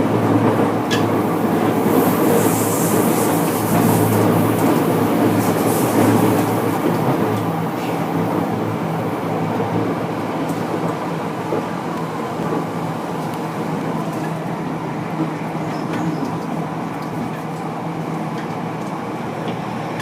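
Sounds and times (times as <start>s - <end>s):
wheel-on-rail rumble: 0.0s - 20.0s.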